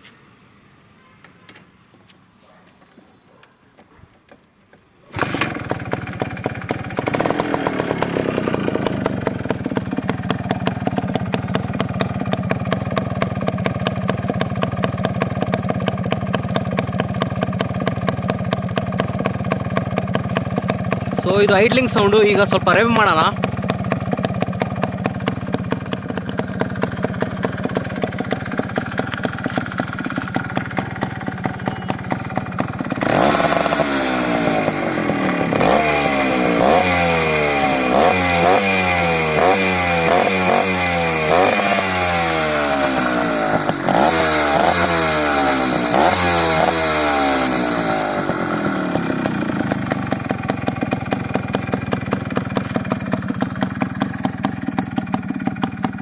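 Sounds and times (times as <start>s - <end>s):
motorcycle engine idling and revving: 2.7s - 56.0s.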